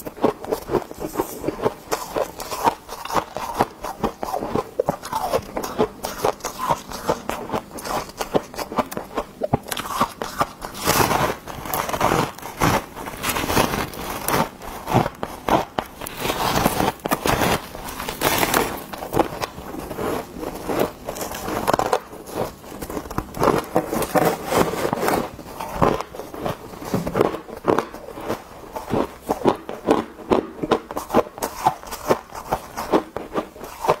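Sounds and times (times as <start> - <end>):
ice crunching while chewed: 0.0 - 34.0.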